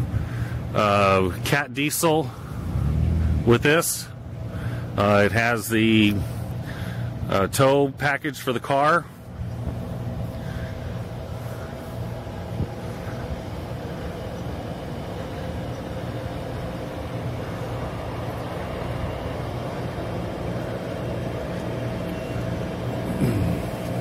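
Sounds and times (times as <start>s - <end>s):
engine running with low drone: 0.0s - 24.0s.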